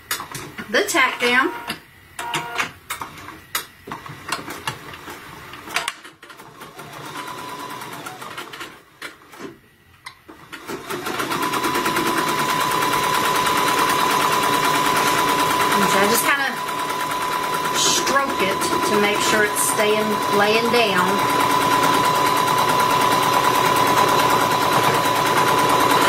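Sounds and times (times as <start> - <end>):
embroidery machine stitching: 4.0 - 9.6, 10.3 - 26.0.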